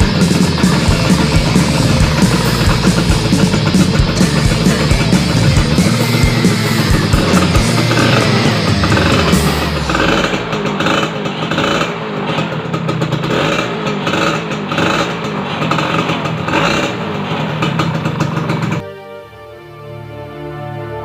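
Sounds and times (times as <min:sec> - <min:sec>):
motorcycle engine running: 0:00.0 - 0:18.8
rock music: 0:00.0 - 0:21.0.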